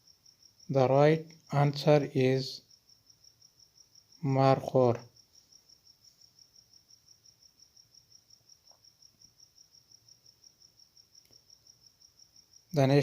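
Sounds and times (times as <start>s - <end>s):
faint insect chirping: 0.0s - 13.0s.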